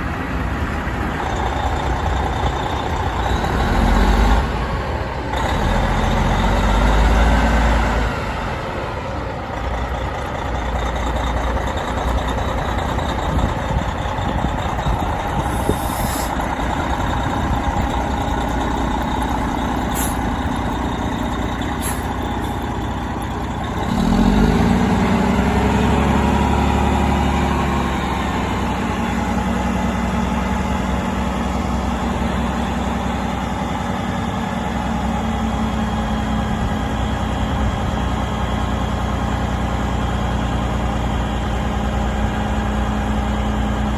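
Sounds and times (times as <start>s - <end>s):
heavy diesel truck engine running: 0.0s - 43.9s.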